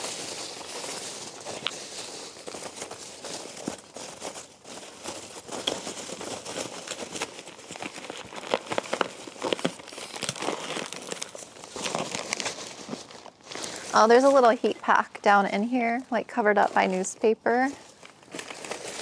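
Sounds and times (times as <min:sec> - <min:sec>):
hands rustling packing peanuts: 0:00.0 - 0:19.0.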